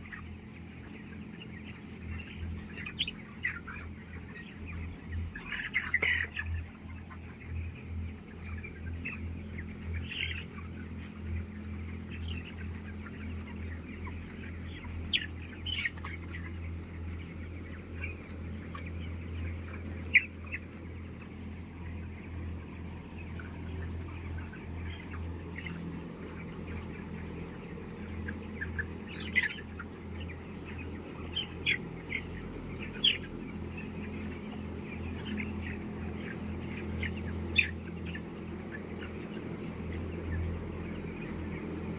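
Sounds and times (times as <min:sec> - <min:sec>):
chickens clucking and calling: 0:00.0 - 0:41.9.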